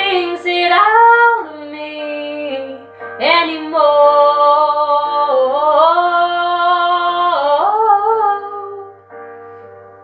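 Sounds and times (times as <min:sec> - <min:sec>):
woman singing without words: 0:00.0 - 0:09.0.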